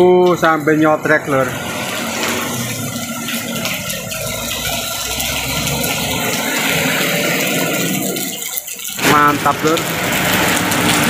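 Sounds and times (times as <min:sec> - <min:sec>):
heavy rain hissing: 0:00.5 - 0:11.0.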